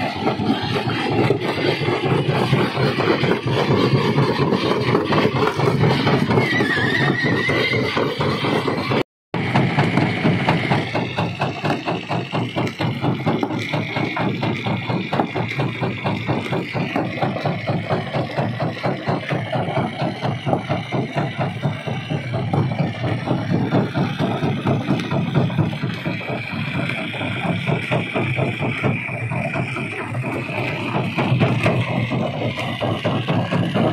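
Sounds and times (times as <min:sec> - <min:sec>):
machine drone: 0:00.0 - 0:33.9
stone crusher knocking: 0:00.0 - 0:33.9.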